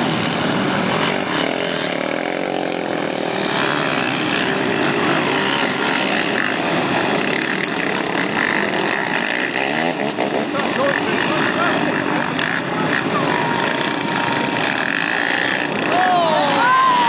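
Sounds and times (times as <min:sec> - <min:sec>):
quad bike engines revving: 0:00.0 - 0:17.0.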